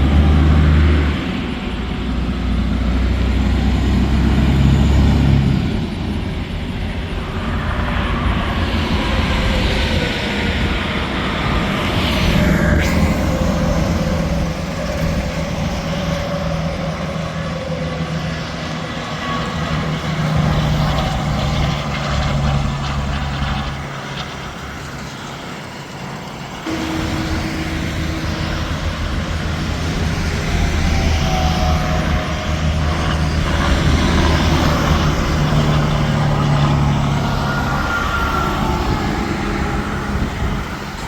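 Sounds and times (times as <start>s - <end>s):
diesel truck engines droning: 0.0s - 41.0s
tyre and road noise: 0.0s - 41.0s.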